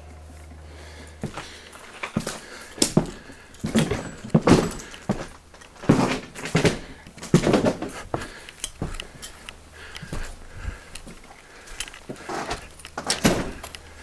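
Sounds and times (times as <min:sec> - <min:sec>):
footsteps scuffing over debris: 0:01.2 - 0:14.0.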